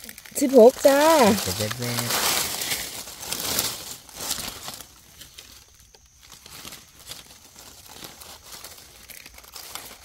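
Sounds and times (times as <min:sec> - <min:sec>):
dry leaves rustling and crackling: 0:00.0 - 0:10.0.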